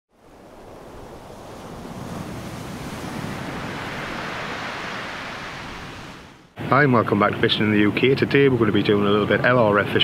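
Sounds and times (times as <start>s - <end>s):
rushing ocean surf: 0.1s - 10.0s.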